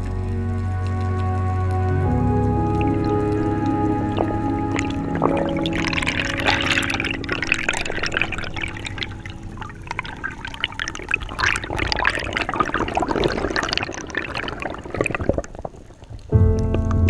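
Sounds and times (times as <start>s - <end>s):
small crackles: 0.0s - 17.0s
water sloshing and bubbling: 0.0s - 17.0s.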